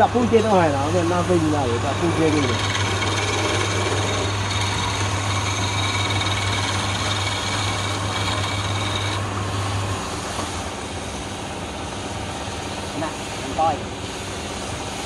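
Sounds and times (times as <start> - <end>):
lathe motor hum: 0.0 - 15.0
lathe whine: 0.0 - 15.0.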